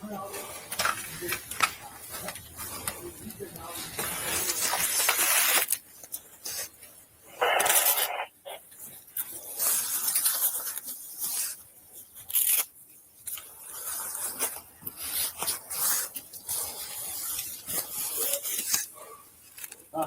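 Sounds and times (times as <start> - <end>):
clothing rubbing on camera: 0.1 - 19.7.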